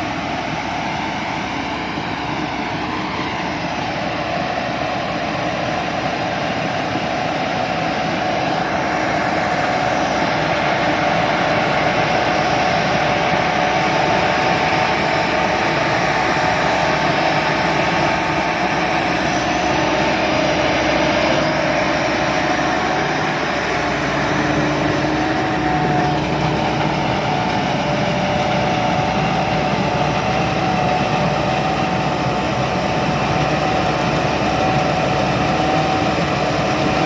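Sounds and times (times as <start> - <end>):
combine harvester droning: 0.0 - 37.0.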